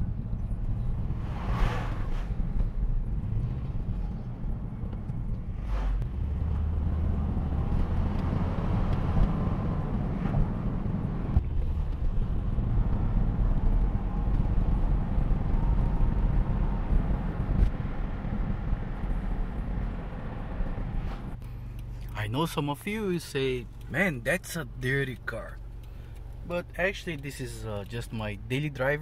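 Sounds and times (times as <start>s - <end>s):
car engine hum: 0.0s - 29.0s
road and tyre noise: 0.0s - 29.0s.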